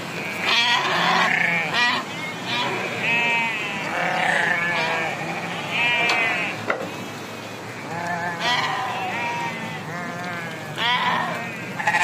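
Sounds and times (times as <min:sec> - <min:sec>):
sheep bleating: 0:00.2 - 0:06.6, 0:07.8 - 0:12.0.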